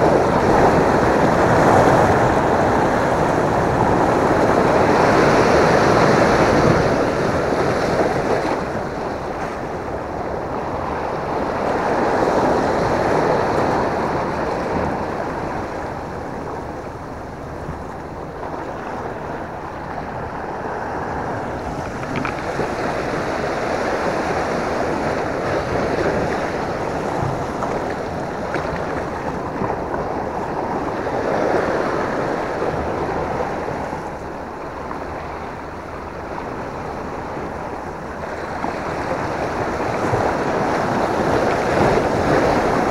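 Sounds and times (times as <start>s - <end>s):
waves washing against rocks: 0.0s - 42.9s
wind on microphone: 0.0s - 42.9s.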